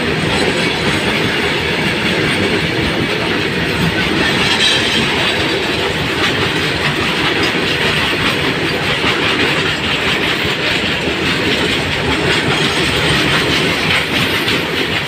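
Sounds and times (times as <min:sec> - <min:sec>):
freight train rumbling past: 0:00.0 - 0:15.0
wheels clattering over rails: 0:00.0 - 0:15.0.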